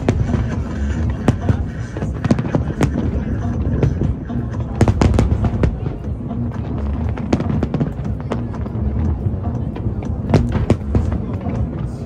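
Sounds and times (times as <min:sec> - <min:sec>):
continuous rumble: 0:00.0 - 0:12.0
fireworks bangs and crackles: 0:00.0 - 0:12.0.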